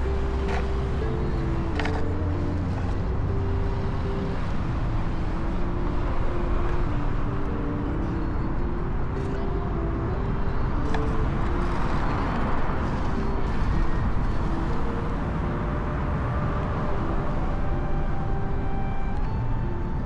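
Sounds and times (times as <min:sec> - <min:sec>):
faint whining tones: 0:00.0 - 0:20.0
road noise: 0:00.0 - 0:20.0.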